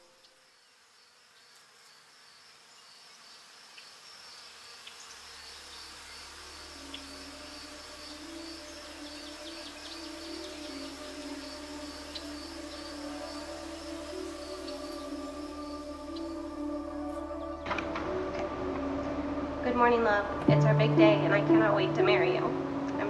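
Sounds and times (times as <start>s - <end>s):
insects chirring: 0.0s - 23.0s
soft sustained music tones: 0.0s - 23.0s.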